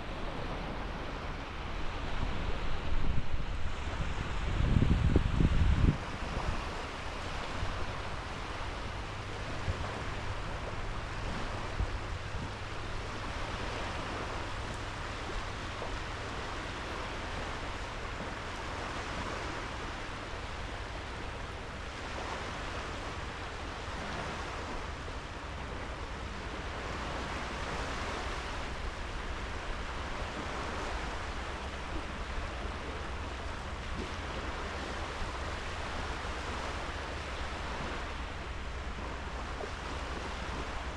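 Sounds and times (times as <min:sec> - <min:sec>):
waves washing onto beach: 0:00.0 - 0:40.9
wind rumble on microphone: 0:00.0 - 0:40.9.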